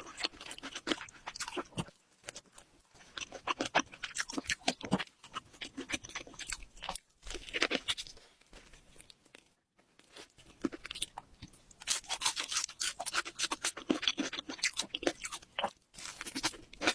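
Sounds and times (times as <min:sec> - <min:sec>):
crunchy food chewing: 0:00.0 - 0:16.9.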